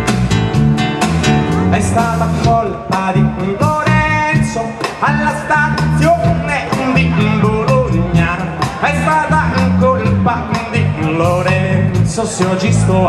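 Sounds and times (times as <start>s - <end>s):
sustained lead melody: 0.0s - 12.2s
drum kit beat: 0.0s - 13.0s
electric guitar: 0.0s - 13.0s.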